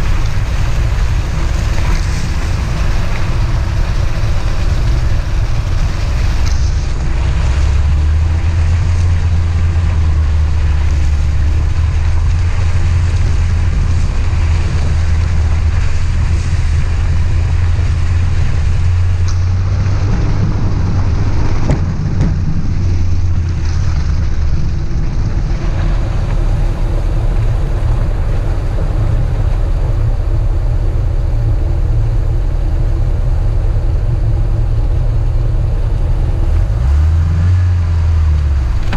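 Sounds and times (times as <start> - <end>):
car engine and road drone: 0.0 - 38.9
wind noise: 0.0 - 38.9.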